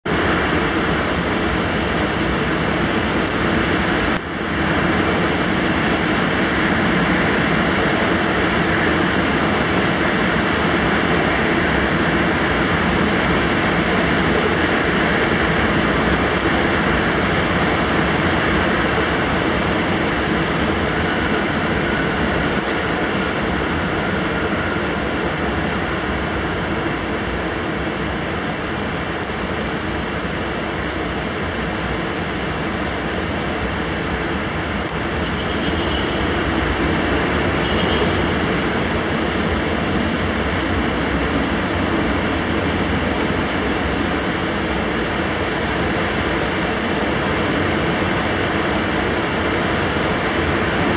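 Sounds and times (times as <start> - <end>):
heavy wind-driven rain: 0.0 - 50.9
storm wind rushing: 0.0 - 50.9.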